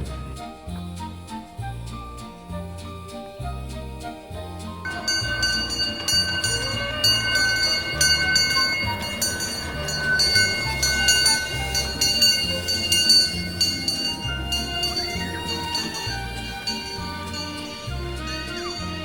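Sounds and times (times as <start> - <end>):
background music with bass line: 0.0 - 19.0
miniature train running on rails: 0.0 - 19.0
train wheels squealing: 0.0 - 19.0.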